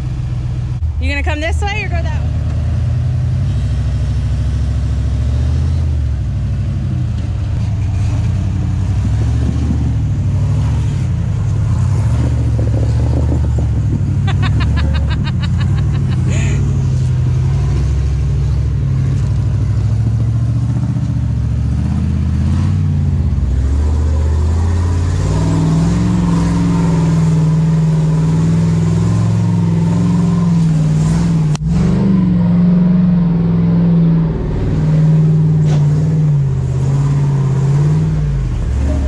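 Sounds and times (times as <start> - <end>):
vehicle engine revving: 0.0 - 39.0.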